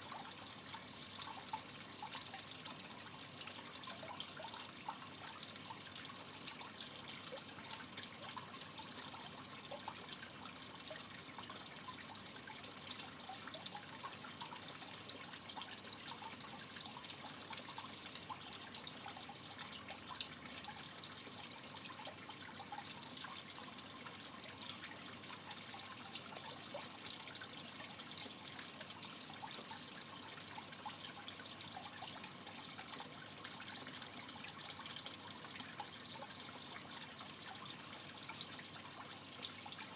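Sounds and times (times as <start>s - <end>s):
water trickling into tank: 0.0s - 39.9s.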